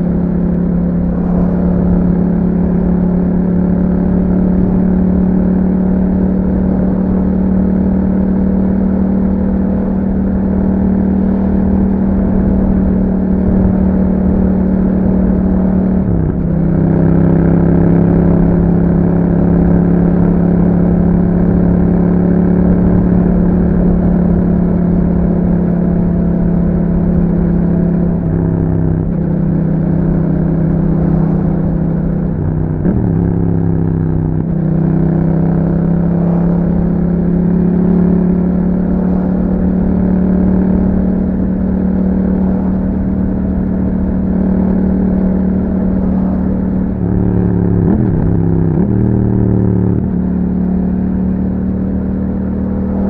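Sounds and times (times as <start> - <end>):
motorcycle engine at road speed: 0.0 - 53.0.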